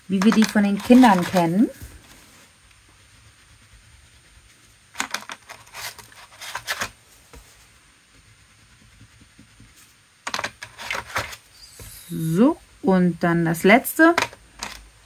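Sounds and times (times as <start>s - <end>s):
crayon scratching on paper: 0.1s - 12.5s.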